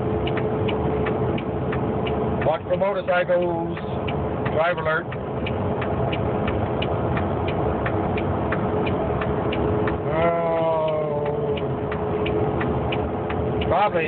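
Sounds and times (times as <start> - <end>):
truck engine and road noise: 0.0 - 14.0
regular clicks: 0.2 - 14.0.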